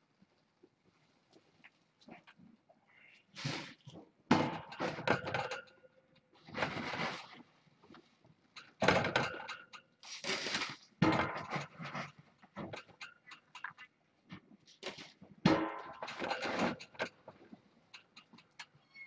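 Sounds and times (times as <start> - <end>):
kittens playing rustling and clicking: 0.2 - 15.4, 16.0 - 19.0.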